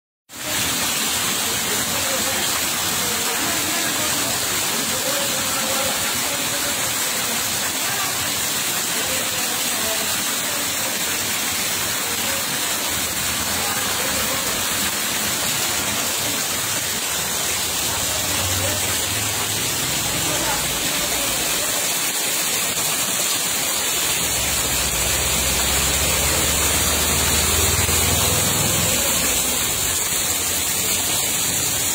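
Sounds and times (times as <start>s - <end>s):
water rushing: 0.3s - 31.9s.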